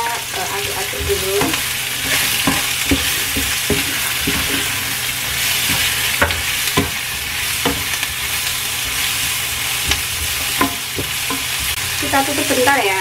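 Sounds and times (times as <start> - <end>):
vegetables sizzling in oil: 0.0 - 13.0
wooden spatula scraping a pan: 0.4 - 12.8.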